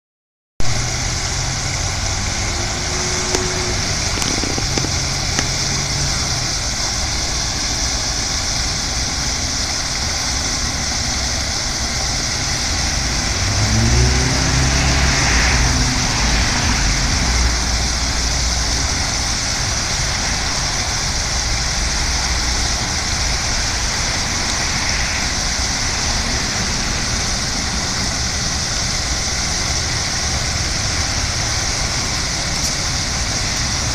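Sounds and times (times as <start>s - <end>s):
low rumble: 0.6s - 32.9s
fountain water splashing: 0.6s - 33.9s.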